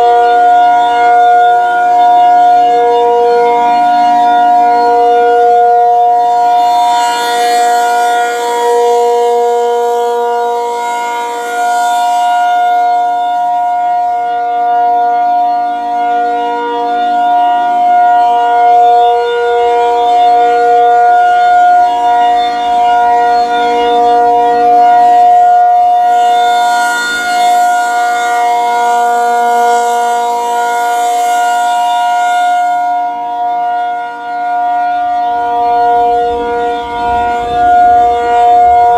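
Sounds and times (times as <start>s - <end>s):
tornado siren two-tone chord: 0.0s - 38.9s.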